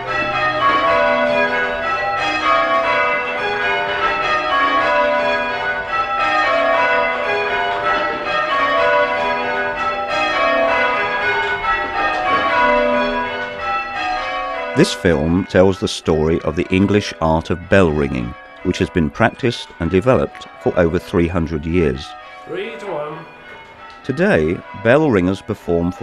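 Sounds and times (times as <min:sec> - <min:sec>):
church bells change ringing: 0:00.0 - 0:26.0.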